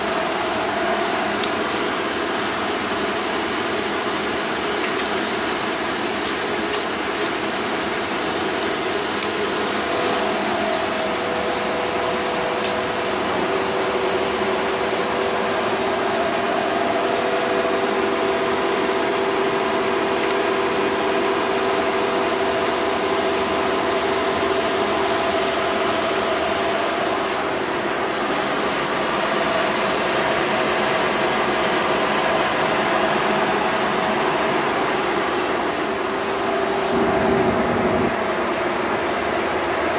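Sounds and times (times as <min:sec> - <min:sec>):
lathe humming with gear whine: 0:00.0 - 0:39.9.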